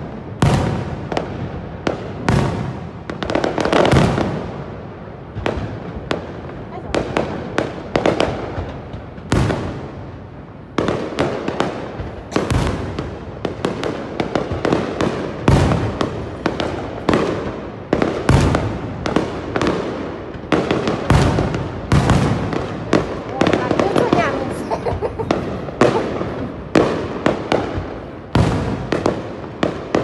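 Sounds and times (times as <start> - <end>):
booming firework bursts: 0.0 - 30.0
fireworks bangs and crackles: 0.0 - 30.0.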